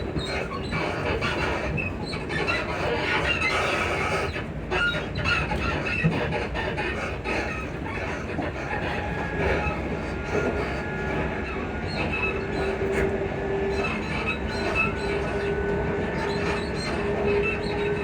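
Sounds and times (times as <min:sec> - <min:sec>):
electric train rumble and clatter: 0:00.0 - 0:18.0.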